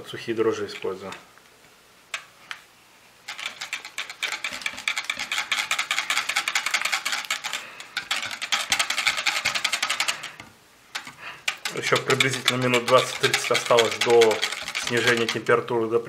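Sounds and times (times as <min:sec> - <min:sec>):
whisk rattling against plastic jug: 0:00.5 - 0:01.2, 0:03.2 - 0:15.8.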